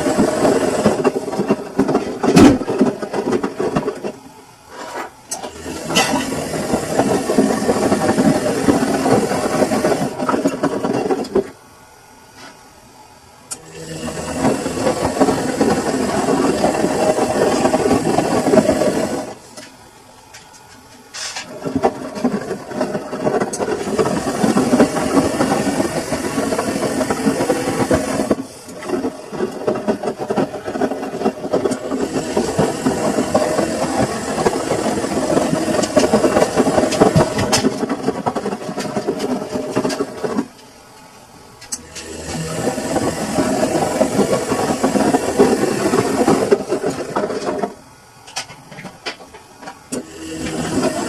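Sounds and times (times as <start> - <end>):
washing machine drum churning: 0.0 - 4.2, 5.3 - 11.5, 13.5 - 19.4, 21.4 - 40.6, 41.7 - 51.0.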